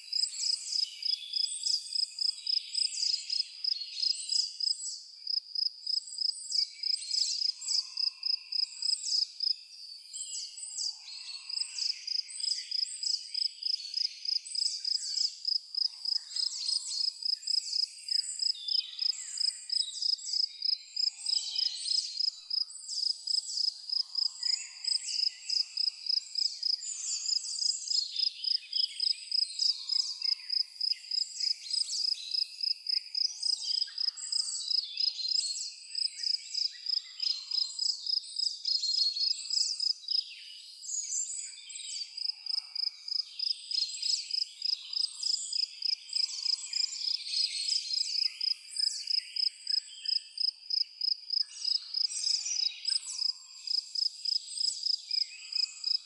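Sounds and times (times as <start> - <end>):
cricket chirping: 0.0 - 9.6, 10.8 - 40.8, 42.1 - 56.0
birds calling and singing: 6.1 - 56.0.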